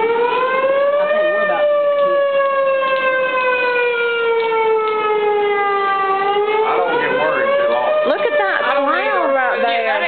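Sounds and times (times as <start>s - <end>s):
tornado siren wailing: 0.0s - 10.0s.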